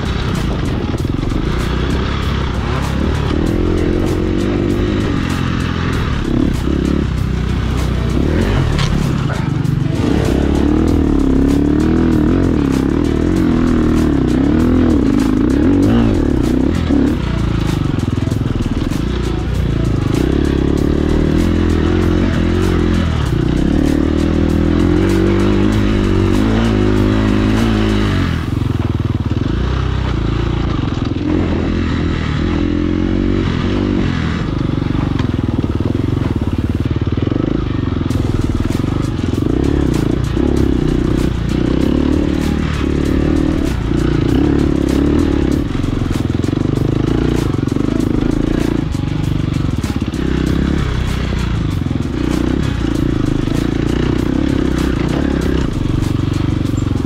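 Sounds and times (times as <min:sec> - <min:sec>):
motorcycle engine revving: 0:00.0 - 0:57.0
rattle over rough ground: 0:00.0 - 0:57.0.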